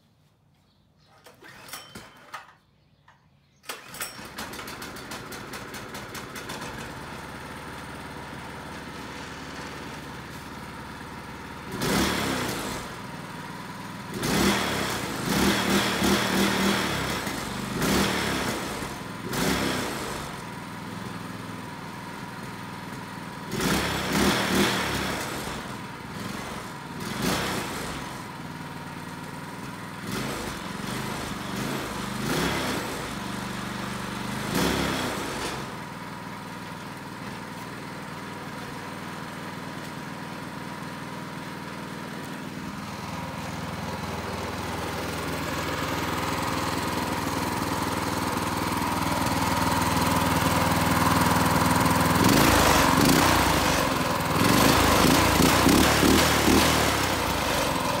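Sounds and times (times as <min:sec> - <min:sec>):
go-kart engine running: 0:03.7 - 0:58.0.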